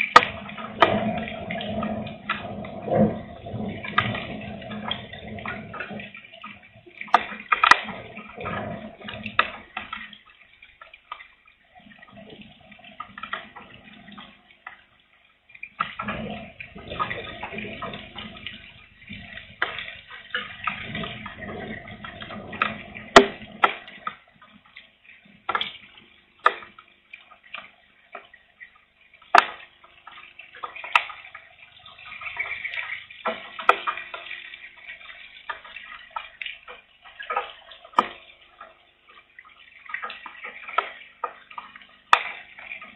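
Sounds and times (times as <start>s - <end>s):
raindrops ticking: 0.0s - 42.9s.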